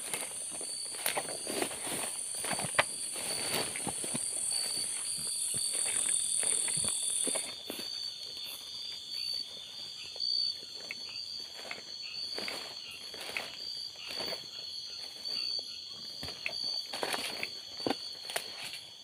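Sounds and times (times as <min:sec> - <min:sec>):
crickets chirping: 0:00.0 - 0:19.0
footsteps on forest floor: 0:00.0 - 0:19.0.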